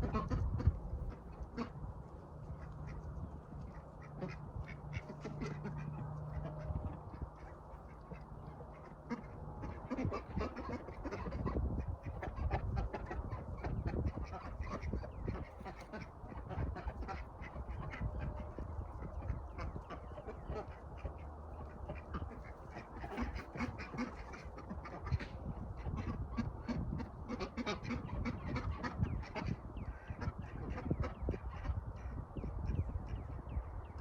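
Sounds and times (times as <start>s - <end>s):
ducks quacking: 0.0s - 34.0s.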